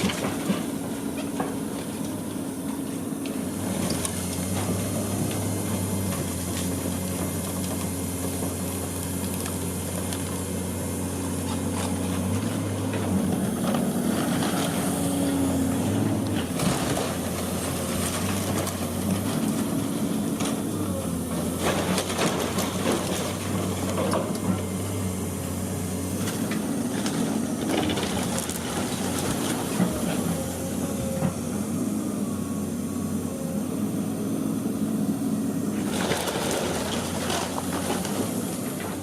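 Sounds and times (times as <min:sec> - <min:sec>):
heavy diesel machine engine: 0:00.0 - 0:39.0.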